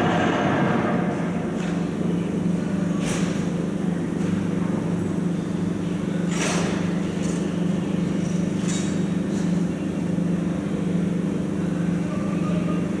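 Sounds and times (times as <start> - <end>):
large engine humming: 0.0 - 13.0.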